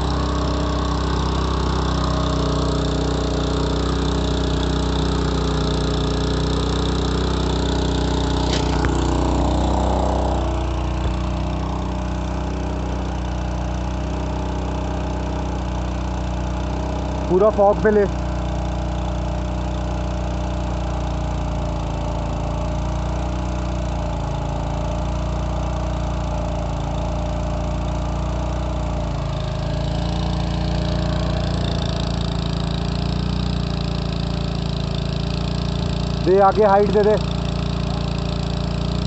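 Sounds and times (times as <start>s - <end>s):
spray pump engine running: 0.0s - 39.0s.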